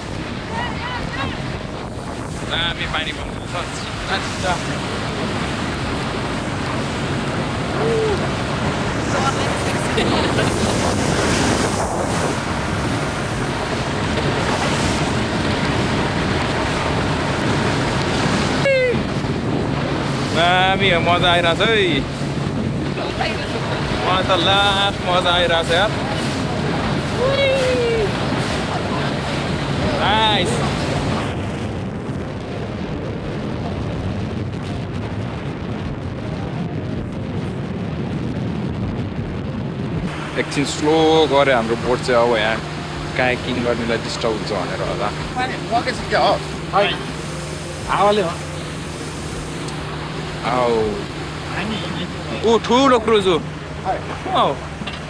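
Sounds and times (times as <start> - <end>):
water rushing past boat: 0.0 - 55.0
wind buffeting microphone: 0.0 - 55.0.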